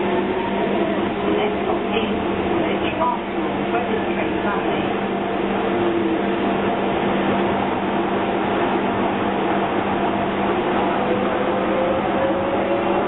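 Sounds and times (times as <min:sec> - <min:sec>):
low hum: 0:00.0 - 0:13.0
train wheels on track: 0:00.0 - 0:13.0.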